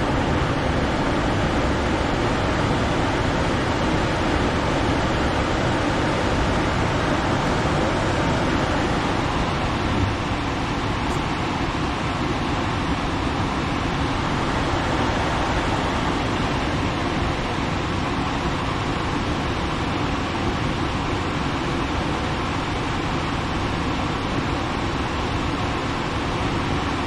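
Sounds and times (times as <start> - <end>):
furnace blower fan rushing: 0.0 - 27.0.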